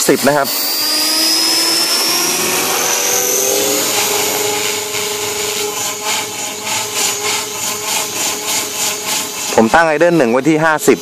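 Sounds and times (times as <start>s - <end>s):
rc helicopter motor whine: 0.0s - 9.8s
helicopter rotors whirring: 0.0s - 11.0s.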